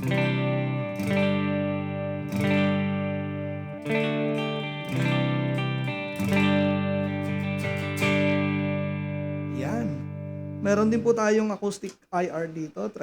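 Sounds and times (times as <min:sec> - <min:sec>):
electric guitar chords ringing: 0:00.0 - 0:11.2.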